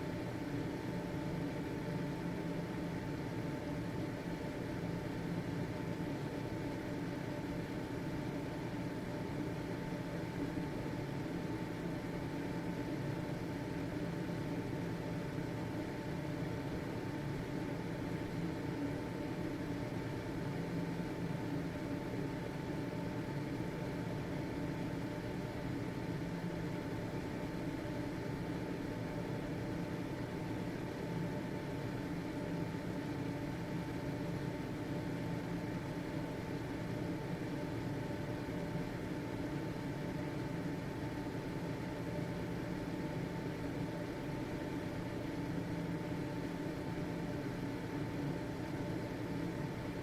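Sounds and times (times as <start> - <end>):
ventilation fan whirring: 0.0 - 50.0.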